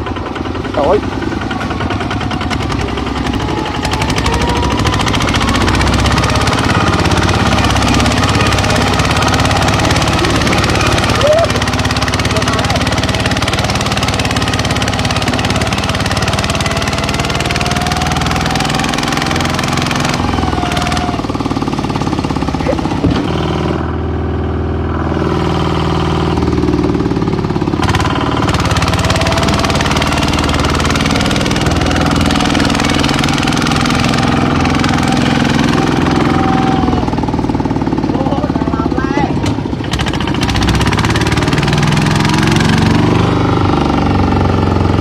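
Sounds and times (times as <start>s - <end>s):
small tractor engine running: 0.0s - 45.0s.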